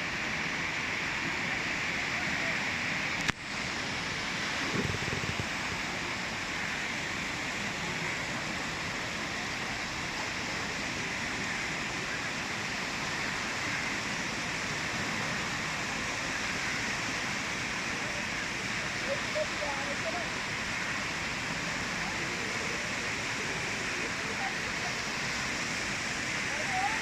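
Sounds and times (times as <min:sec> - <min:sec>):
sea surf rushing: 0:00.0 - 0:27.0.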